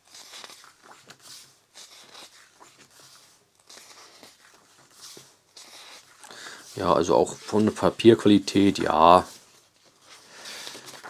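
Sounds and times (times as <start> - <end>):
booklet pages turning: 0.0 - 11.0.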